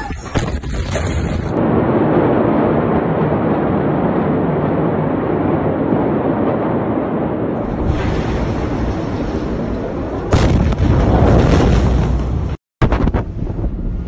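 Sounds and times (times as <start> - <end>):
explosion rumbling roar: 0.3 - 14.0.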